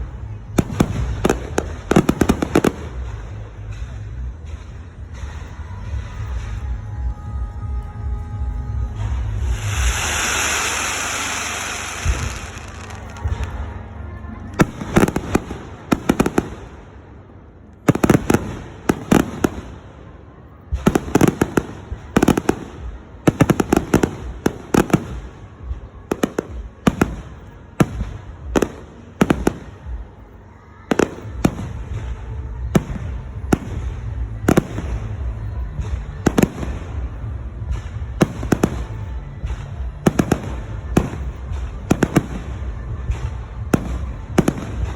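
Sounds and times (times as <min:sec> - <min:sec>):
fireworks bursting with sharp bangs: 0:00.0 - 0:44.9.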